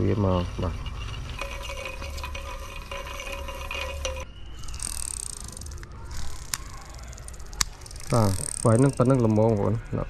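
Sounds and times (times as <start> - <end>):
fishing reel mechanism whining: 0.0 - 10.0
rapid ticking buzz: 0.0 - 10.0.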